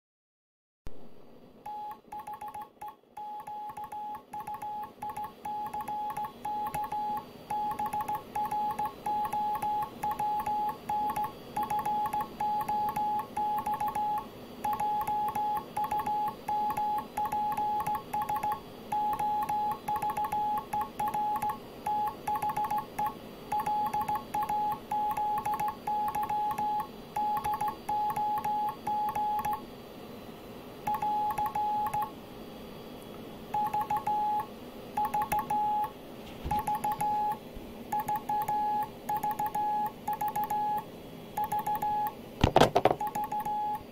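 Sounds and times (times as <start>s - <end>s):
morse code sidetone beeps: 1.7s - 29.6s, 30.9s - 32.1s, 33.6s - 35.9s, 36.6s - 40.8s, 41.4s - 42.1s, 43.0s - 43.8s.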